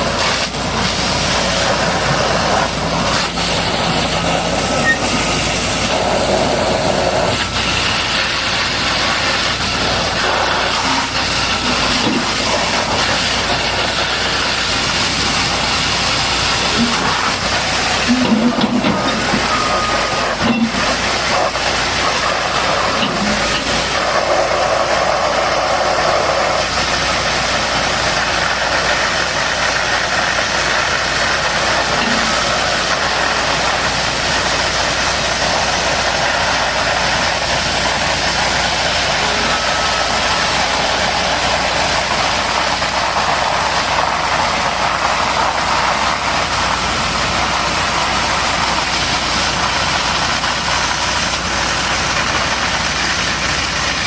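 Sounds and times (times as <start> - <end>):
continuous hiss: 0.0 - 54.0
engine idling: 0.0 - 54.0.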